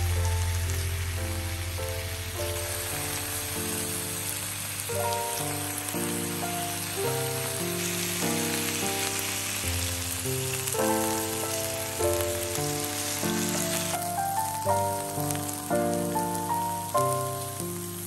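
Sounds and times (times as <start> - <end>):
beef sizzling on a grill plate: 0.0 - 18.0
gentle background music: 0.0 - 18.0.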